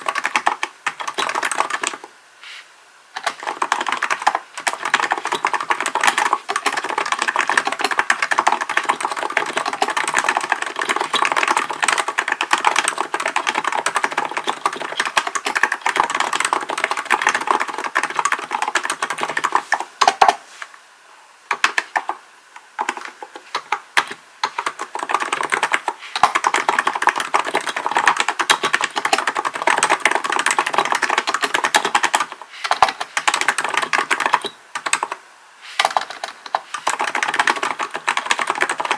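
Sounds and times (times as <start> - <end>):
rapid keyboard typing: 0.0 - 2.1, 3.2 - 20.4, 21.5 - 35.2, 35.8 - 38.9.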